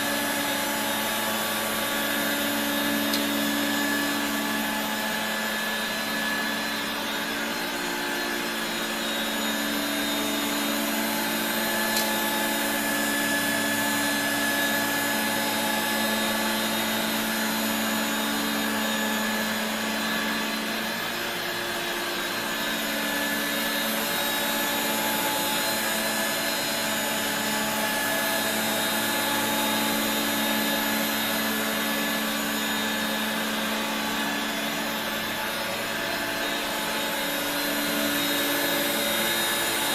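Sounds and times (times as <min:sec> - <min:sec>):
stick vacuum whine: 0:00.0 - 0:39.9.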